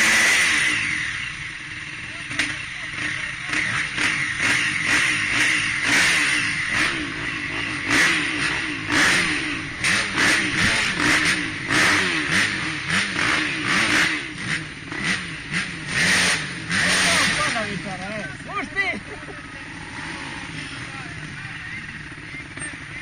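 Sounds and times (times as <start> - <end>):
racing engines revving: 0.0 - 23.0.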